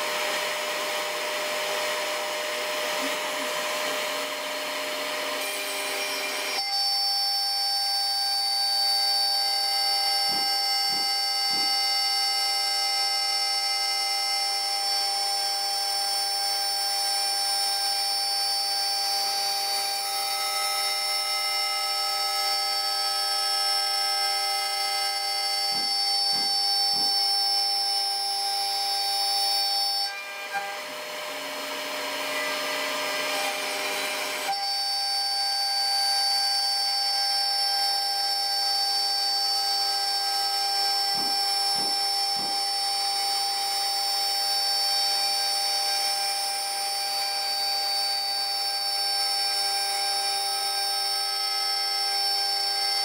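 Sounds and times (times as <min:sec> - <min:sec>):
router spindle high whine: 0:00.0 - 0:53.0.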